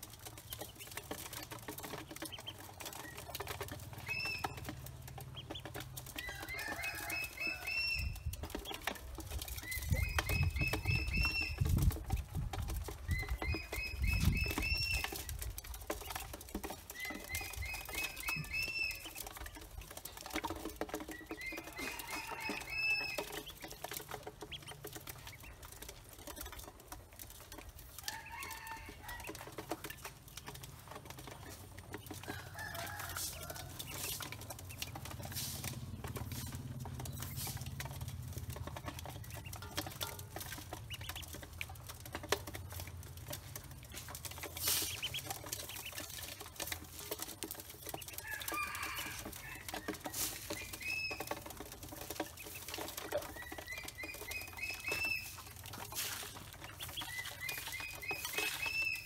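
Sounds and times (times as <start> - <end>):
bills pecking in metal bowl: 0.0 - 59.0
ducklings peeping: 0.2 - 59.0.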